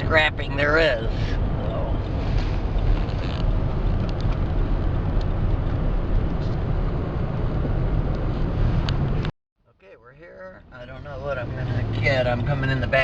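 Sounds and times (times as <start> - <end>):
truck road and engine rumble: 0.0 - 13.0.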